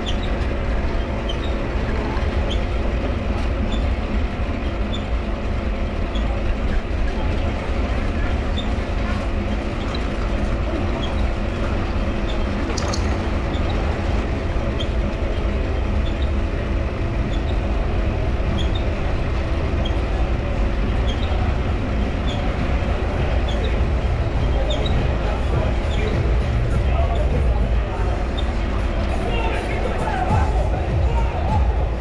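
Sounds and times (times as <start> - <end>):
pedal crank squeaking: 0.0 - 5.2, 8.2 - 30.4.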